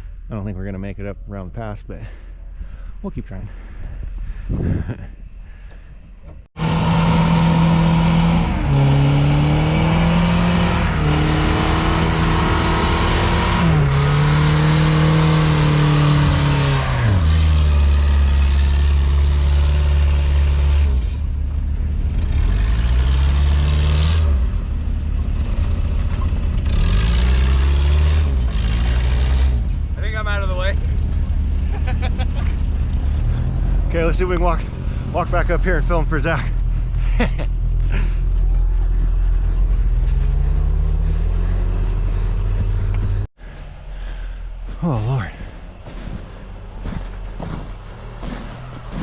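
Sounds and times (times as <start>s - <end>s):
engine revving in snow: 6.6s - 49.0s.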